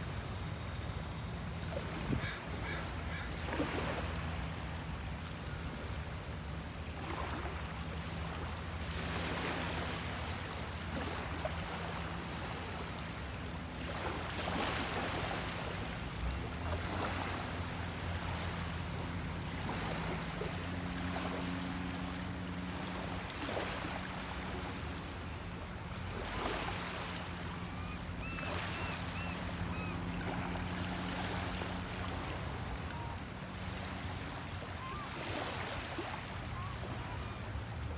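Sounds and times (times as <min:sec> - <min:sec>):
small waves lapping on beach: 0:00.0 - 0:37.9.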